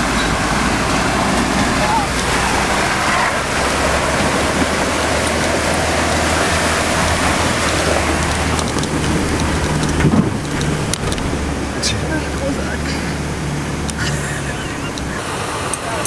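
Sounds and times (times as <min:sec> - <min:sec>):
car engine low hum: 0:00.0 - 0:16.0
water rushing around car: 0:00.0 - 0:16.0.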